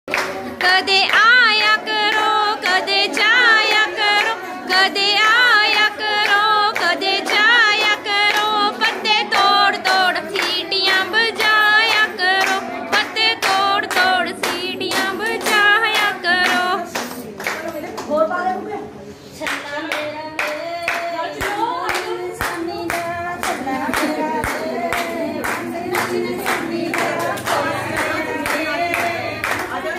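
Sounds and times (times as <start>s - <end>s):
group hand clapping: 0.1s - 18.3s, 19.4s - 29.9s.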